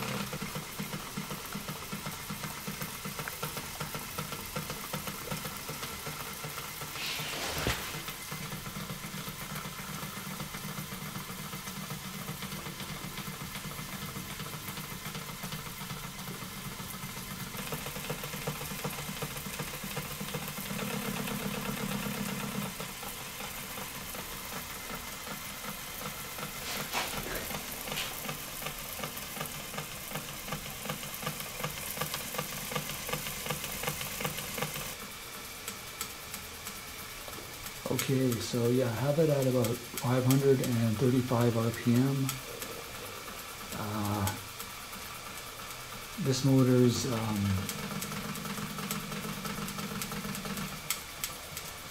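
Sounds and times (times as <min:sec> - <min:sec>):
water churning and spraying: 0:00.0 - 0:35.0, 0:38.0 - 0:51.9
electric motor hum: 0:00.0 - 0:51.9.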